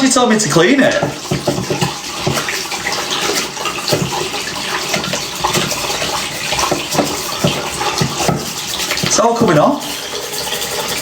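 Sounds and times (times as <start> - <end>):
splashes of washing: 0.0 - 11.0
water running from a tap: 0.0 - 11.0.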